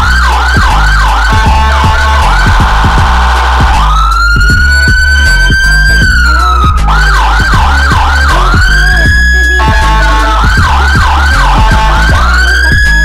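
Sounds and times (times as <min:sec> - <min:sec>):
electronic siren wail and yelp: 0:00.0 - 0:13.0
low beat: 0:00.0 - 0:13.0.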